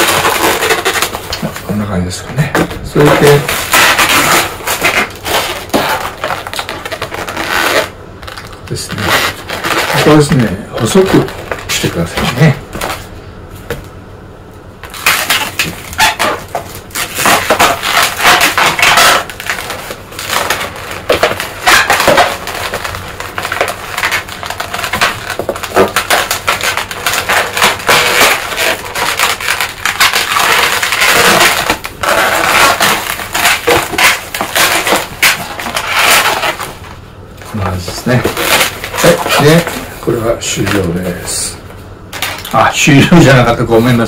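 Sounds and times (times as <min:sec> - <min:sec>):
balloons squeaking and crackling: 0:00.0 - 0:13.1, 0:14.8 - 0:44.0.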